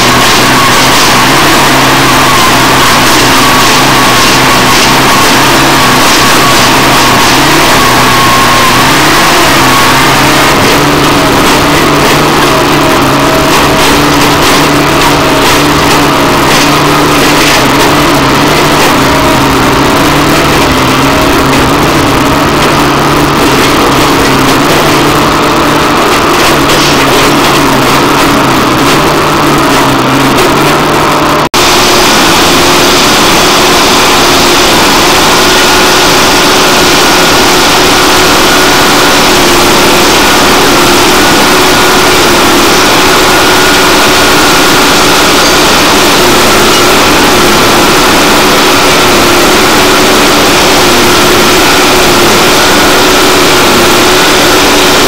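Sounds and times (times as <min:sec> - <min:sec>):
heavy track machinery running: 0:00.0 - 0:55.0.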